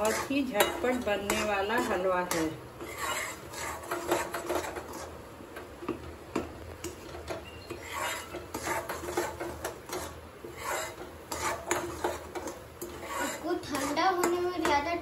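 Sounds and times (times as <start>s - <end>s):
spoon scraping metal pan: 0.0s - 5.2s, 6.8s - 15.0s.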